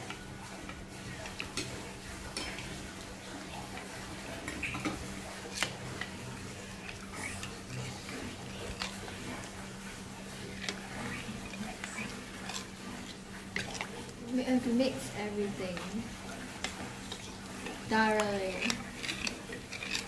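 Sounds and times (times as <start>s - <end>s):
metal spoon stirring batter in bowl: 0.0s - 20.0s.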